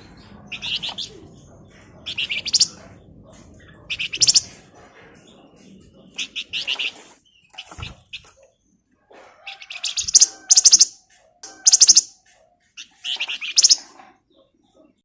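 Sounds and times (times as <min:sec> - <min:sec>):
bird chattering trills: 0:00.0 - 0:04.6, 0:06.0 - 0:08.3, 0:09.4 - 0:14.8.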